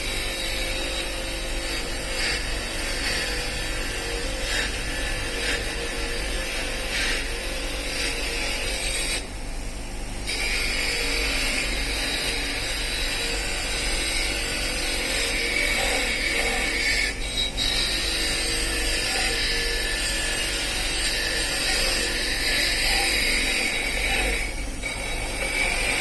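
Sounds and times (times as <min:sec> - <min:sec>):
power tool running: 0:00.0 - 0:26.0.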